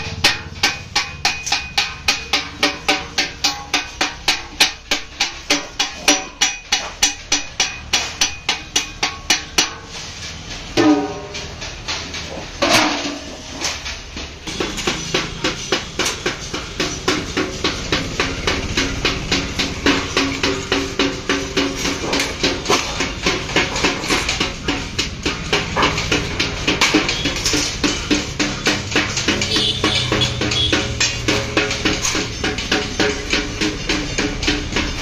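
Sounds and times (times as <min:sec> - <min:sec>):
hammer beating on metal tub: 0:00.0 - 0:35.0
metal tubs clanging together: 0:00.0 - 0:35.0.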